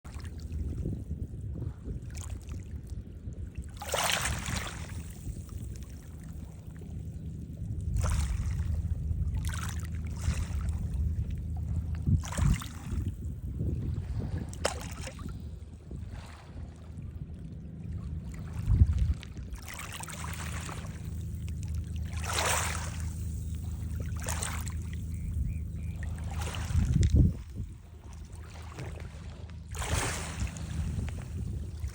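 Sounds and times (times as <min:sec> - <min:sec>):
steady low rumble: 0:00.0 - 0:31.9
sea water splashing: 0:00.1 - 0:31.9.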